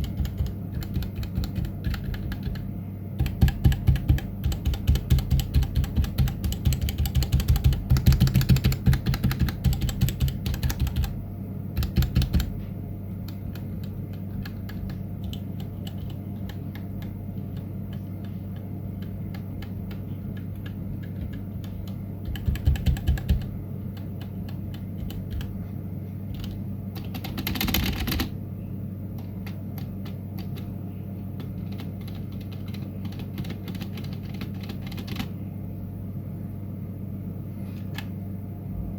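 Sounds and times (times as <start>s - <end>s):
mechanical keyboard typing: 0.0s - 11.2s, 11.8s - 12.6s, 13.2s - 25.6s, 26.3s - 28.3s, 29.2s - 30.7s, 31.4s - 35.4s
steady low hum: 0.0s - 38.9s.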